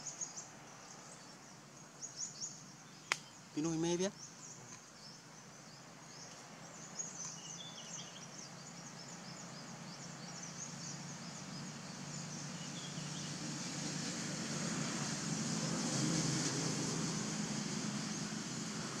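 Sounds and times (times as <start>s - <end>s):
insect and bird chirping: 0.0s - 19.0s.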